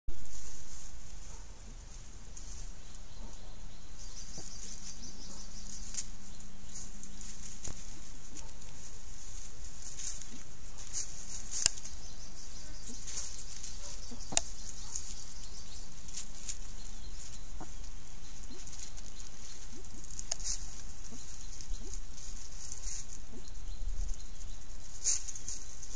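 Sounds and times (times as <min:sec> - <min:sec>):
steady high-pitched hiss: 0:00.1 - 0:25.9
clicks and scratches in leaf litter: 0:00.2 - 0:25.9.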